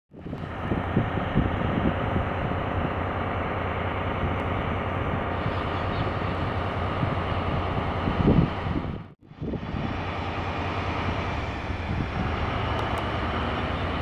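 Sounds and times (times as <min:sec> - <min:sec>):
diesel locomotive engine running: 0:00.1 - 0:14.0.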